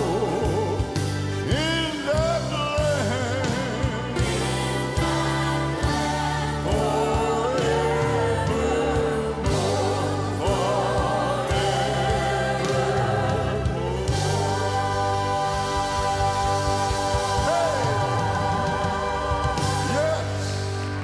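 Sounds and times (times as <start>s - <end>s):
gospel group singing in harmony: 0.0s - 21.0s
piano and band: 0.0s - 21.0s.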